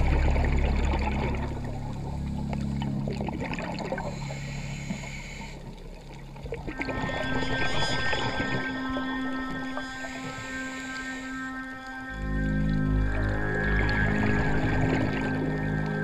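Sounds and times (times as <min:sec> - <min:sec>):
ambient electronic music: 0:00.0 - 0:16.0.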